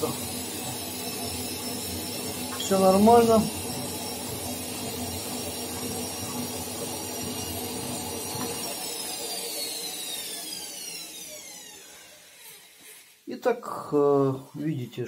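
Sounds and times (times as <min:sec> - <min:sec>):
washing machine spinning: 0:00.0 - 0:12.8.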